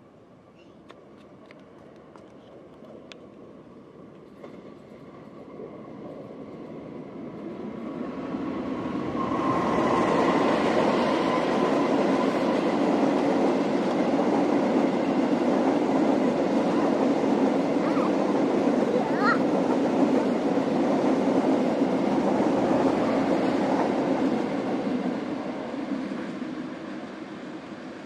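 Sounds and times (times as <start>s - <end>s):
train rumbling past: 1.0s - 28.0s.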